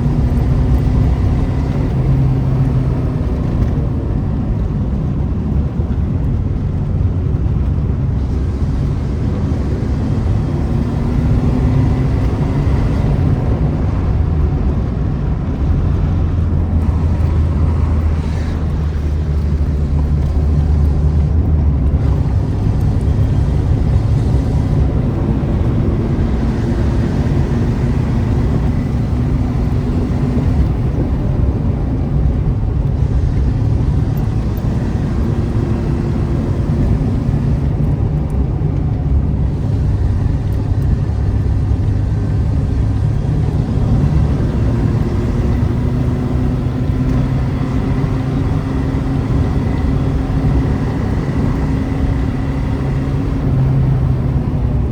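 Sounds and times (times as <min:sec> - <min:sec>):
car exhaust rumbling: 0:00.0 - 0:54.9.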